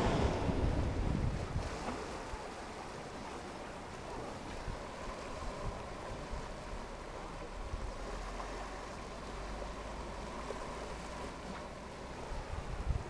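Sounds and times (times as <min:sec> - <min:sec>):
small waves lapping on rocks: 0:00.0 - 0:13.0
wind rumble on microphone: 0:00.0 - 0:13.0.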